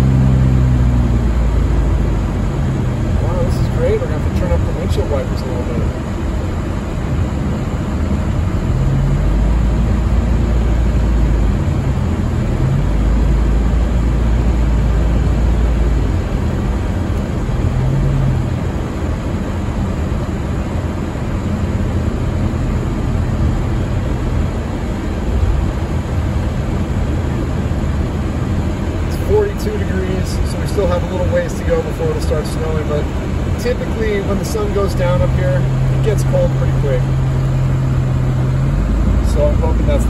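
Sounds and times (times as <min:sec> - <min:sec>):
car road noise rumble: 0:00.0 - 0:40.0.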